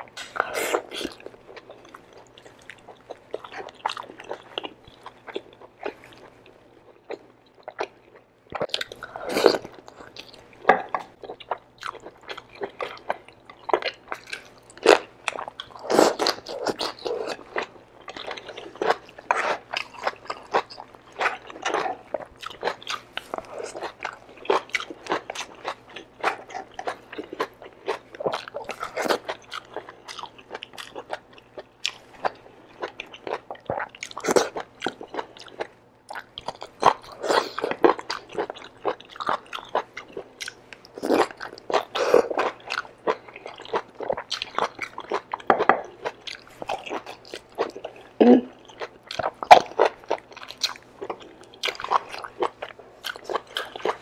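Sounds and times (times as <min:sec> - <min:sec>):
wet chewing and crunching: 0:00.0 - 0:54.0.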